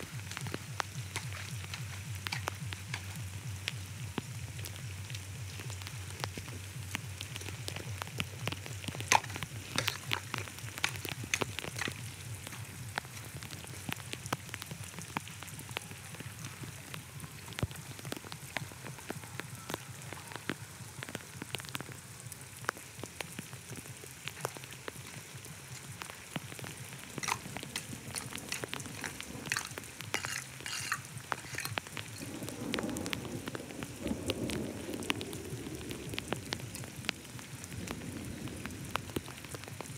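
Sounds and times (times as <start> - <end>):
water spattering: 0.0 - 39.9.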